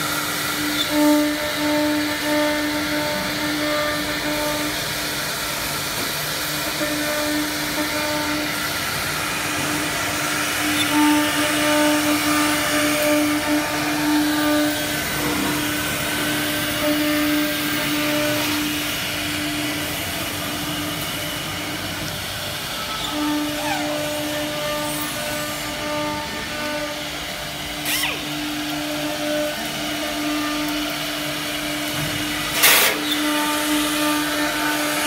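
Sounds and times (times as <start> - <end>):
factory machinery rushing noise: 0.0 - 35.0
router spindle whine: 0.0 - 35.0.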